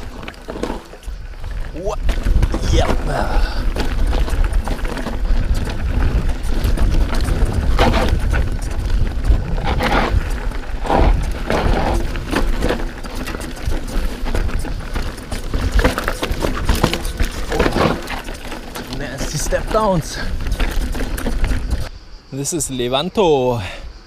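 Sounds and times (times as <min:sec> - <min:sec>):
bike frame and chain rattling: 0:00.0 - 0:21.9
tyres crunching over stones: 0:00.0 - 0:21.9
wind rumble on microphone: 0:00.0 - 0:22.0.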